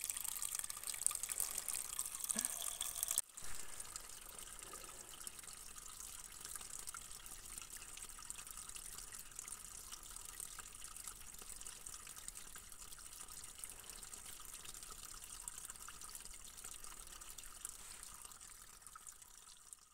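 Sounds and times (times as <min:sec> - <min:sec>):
stream trickling over stones: 0:00.0 - 0:19.9.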